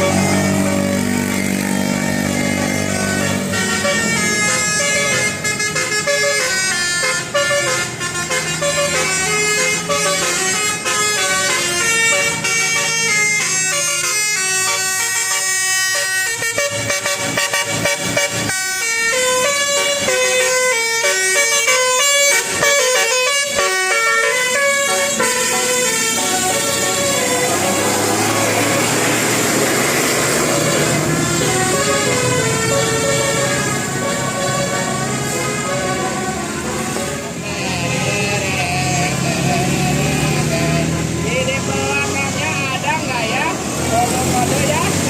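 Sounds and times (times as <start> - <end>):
bus musical horn: 0.0 - 45.0.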